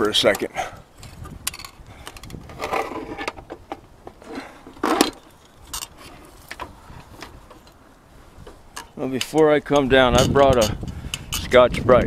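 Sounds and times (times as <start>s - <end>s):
clicks and scrapes of handling wires: 0.0s - 12.0s.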